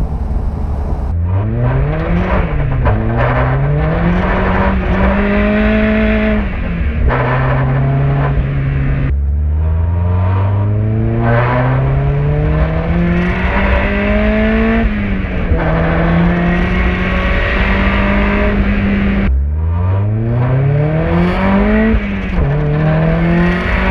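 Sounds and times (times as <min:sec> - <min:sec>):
turbocharged car engine accelerating: 0:00.0 - 0:23.9.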